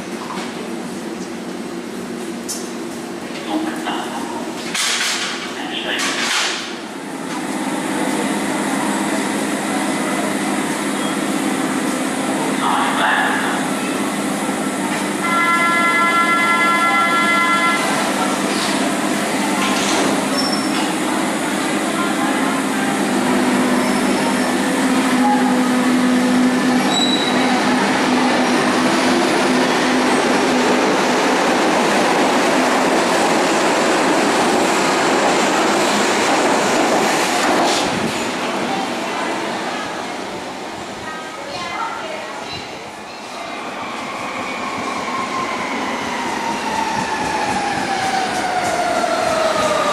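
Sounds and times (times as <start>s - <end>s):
station background noise: 0.0s - 49.9s
train humming at platform: 0.0s - 49.9s.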